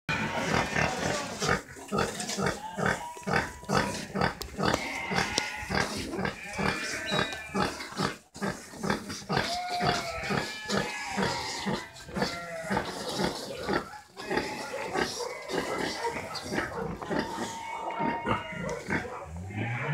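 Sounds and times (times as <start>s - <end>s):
piglets squealing: 2.4s - 8.0s, 9.3s - 19.9s.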